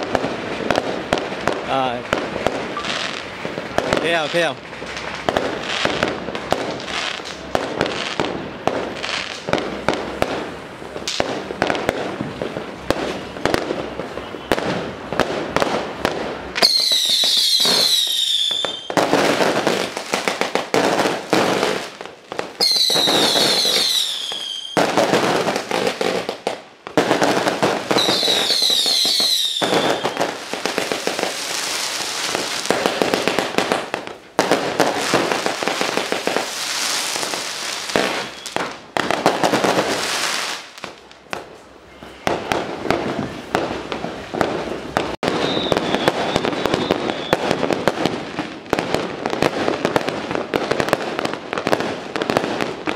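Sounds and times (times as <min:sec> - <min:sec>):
fireworks whistles falling: 0:00.0 - 0:08.0, 0:11.1 - 0:48.4
firecrackers crackling: 0:00.0 - 0:52.9.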